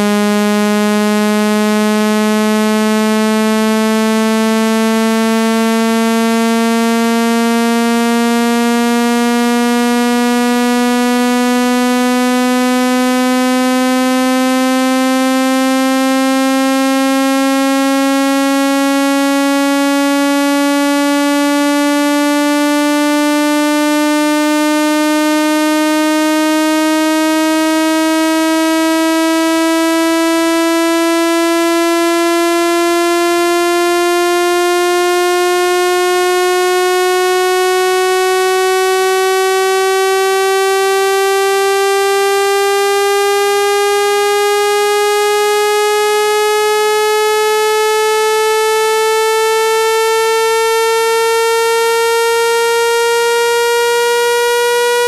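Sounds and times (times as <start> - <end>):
buzzy synthesized tone rising in pitch: 0.0 - 55.0.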